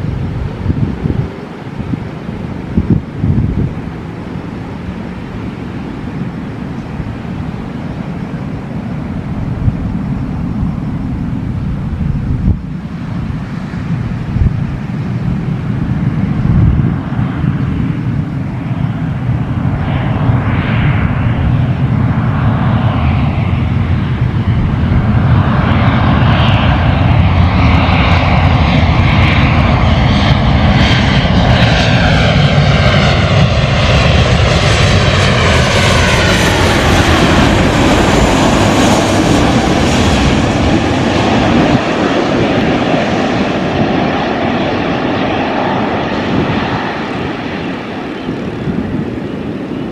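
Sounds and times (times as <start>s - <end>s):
jet airliner engines rumbling: 0.0s - 49.9s
jet engine whine: 0.0s - 49.9s.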